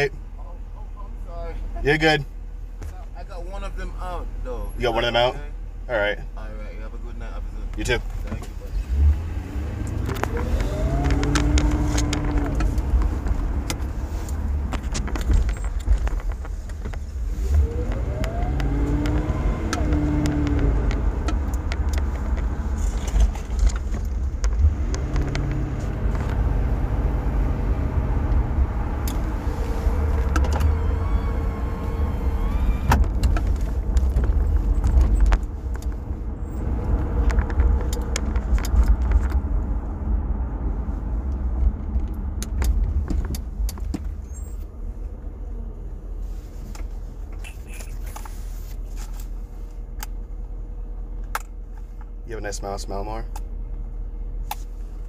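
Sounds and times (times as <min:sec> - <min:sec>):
road rumble: 0:00.0 - 0:55.0
car engine accelerating: 0:03.5 - 0:55.0.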